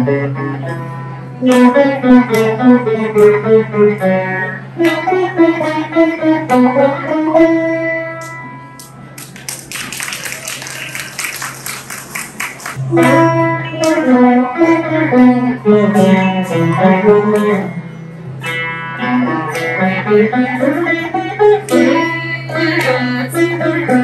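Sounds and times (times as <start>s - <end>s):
veenas playing plucked melody: 0.0s - 9.1s, 10.2s - 24.0s.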